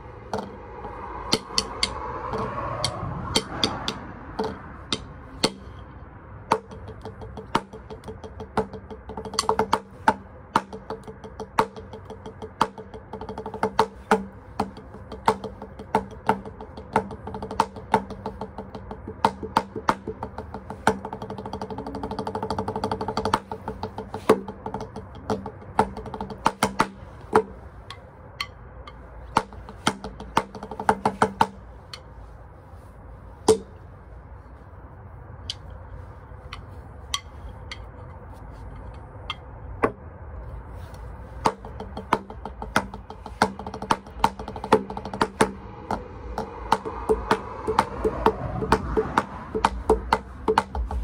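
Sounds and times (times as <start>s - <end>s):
drumsticks on practice pad: 0.0s - 51.0s.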